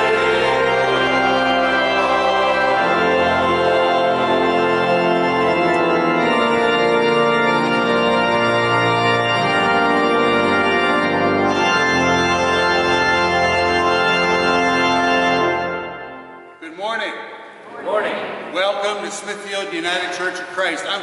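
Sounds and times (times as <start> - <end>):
church organ playing chords: 0.0 - 17.6.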